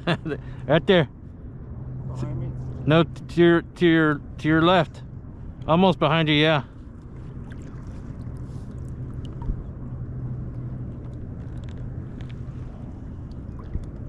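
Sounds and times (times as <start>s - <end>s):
faint low hum: 0.0s - 14.0s
wind and water rumble: 0.0s - 14.0s.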